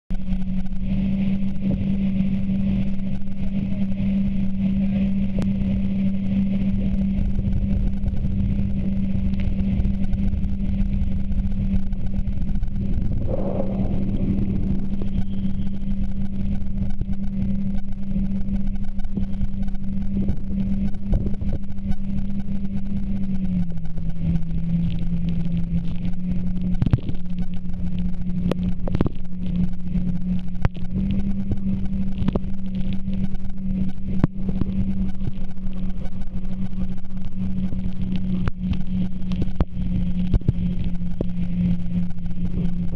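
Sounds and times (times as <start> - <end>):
jet ski engine droning: 0.1 - 42.9.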